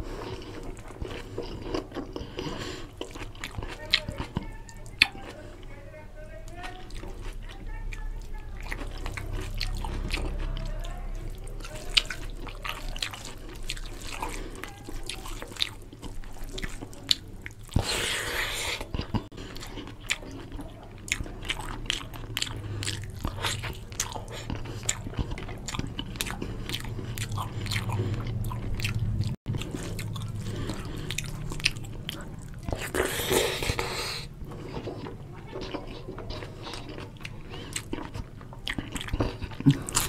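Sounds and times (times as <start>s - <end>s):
steady low hum: 0.0s - 14.8s, 15.7s - 40.0s
chewing and wet mouth clicks: 0.2s - 5.4s, 6.5s - 40.0s
fingers squishing food: 6.4s - 40.0s.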